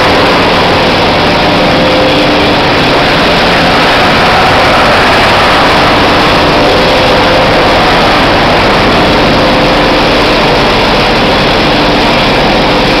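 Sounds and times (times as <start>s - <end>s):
roar of blower fans and motors: 0.0s - 13.0s.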